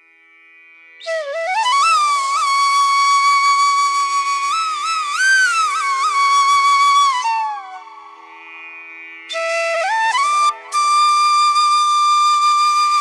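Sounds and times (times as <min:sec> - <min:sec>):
flute-like melody: 0:01.0 - 0:08.3, 0:09.3 - 0:13.0.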